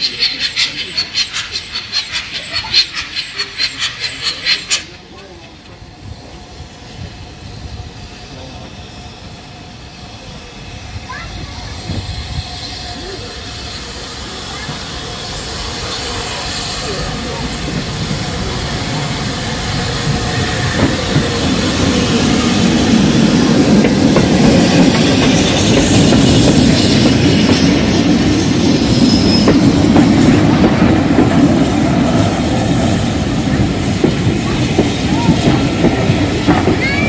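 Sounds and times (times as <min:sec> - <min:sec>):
coaches rolling on rails: 0:00.0 - 0:37.0
steam locomotive running past: 0:00.0 - 0:37.0.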